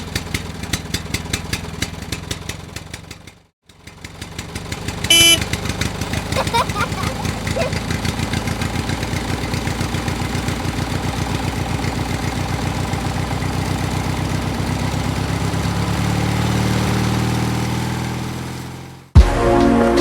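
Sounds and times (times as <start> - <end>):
small tractor engine chugging: 0.0 - 16.0.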